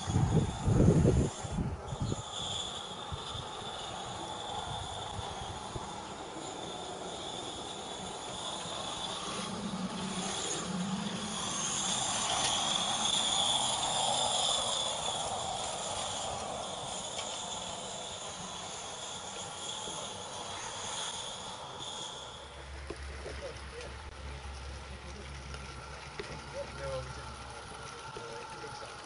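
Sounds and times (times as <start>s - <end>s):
steam locomotive hissing: 0.0s - 29.0s.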